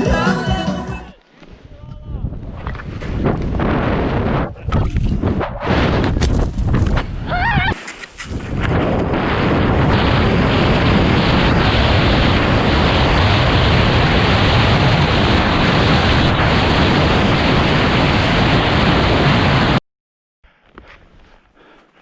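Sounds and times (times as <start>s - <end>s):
wind buffeting microphone: 1.7s - 19.7s.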